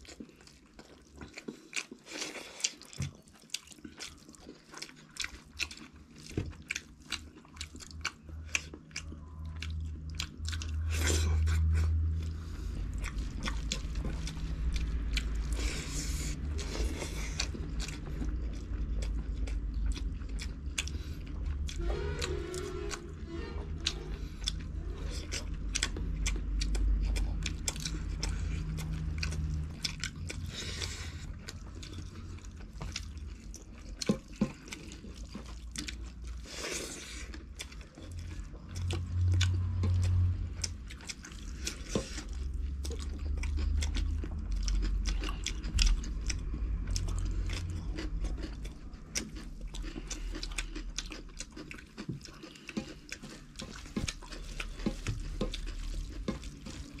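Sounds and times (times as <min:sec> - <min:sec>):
chewing and smacking: 0:00.0 - 0:57.0.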